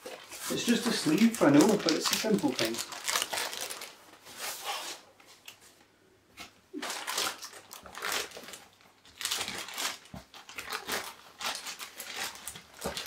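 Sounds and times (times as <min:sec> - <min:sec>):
plastic bag crinkling: 0:00.0 - 0:04.2, 0:06.7 - 0:13.0.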